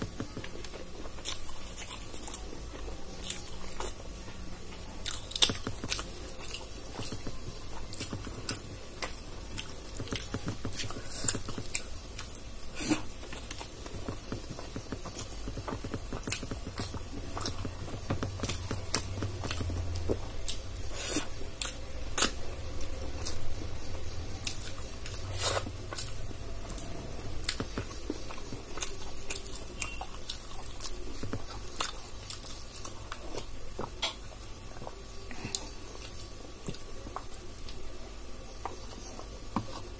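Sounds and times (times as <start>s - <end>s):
chewing and mouth clicks: 0.2s - 4.0s, 5.0s - 23.5s, 24.4s - 37.8s.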